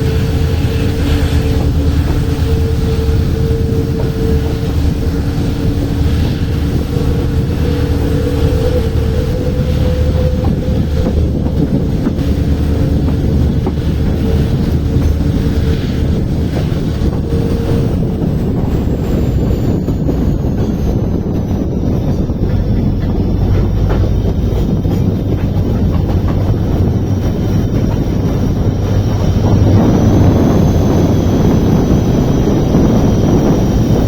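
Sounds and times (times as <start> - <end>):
locomotive low rumble: 0.0 - 34.0
two-tone droning hum: 0.0 - 34.0.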